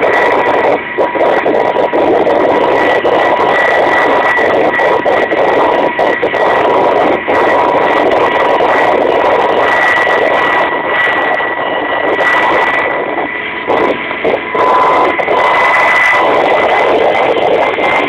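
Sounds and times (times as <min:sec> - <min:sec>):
helicopter drone from cabin: 0:00.0 - 0:18.0
thin high whine: 0:00.0 - 0:18.0.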